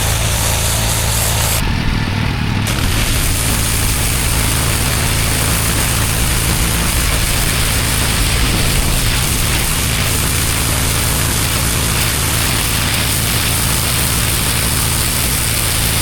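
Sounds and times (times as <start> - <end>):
high-pressure water spraying: 0.0 - 1.6, 2.4 - 16.0
pressure washer engine: 0.0 - 16.0.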